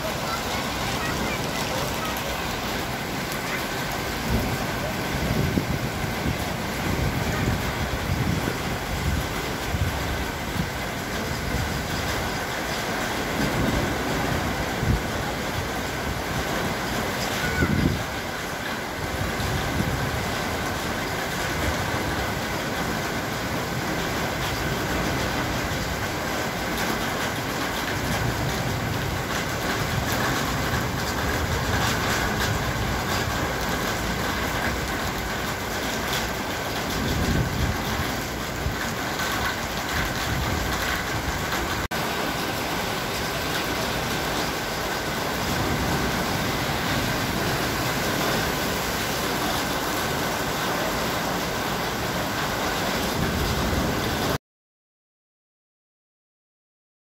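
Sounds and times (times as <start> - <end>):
heavy rain pouring: 0.0 - 54.4.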